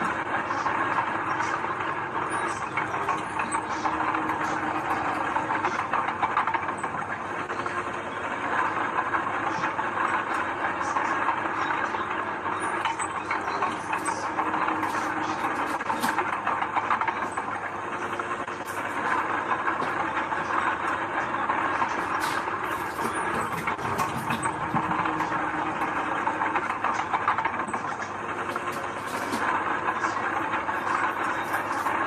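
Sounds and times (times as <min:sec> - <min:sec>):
heavy diesel machinery running: 0:00.0 - 0:32.0
sharp clicks and rattles: 0:00.0 - 0:32.0.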